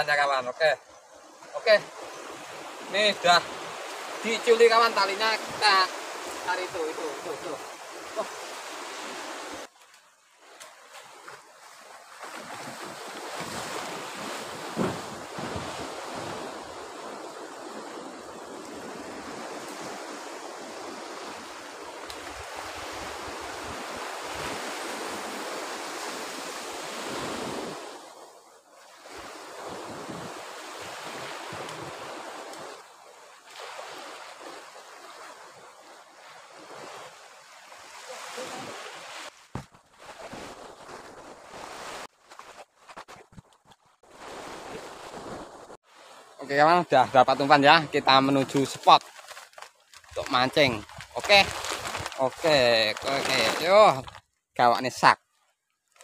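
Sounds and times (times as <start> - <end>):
surf breaking on beach: 1.6 - 9.7, 12.2 - 28.1, 28.9 - 42.1, 44.1 - 54.1.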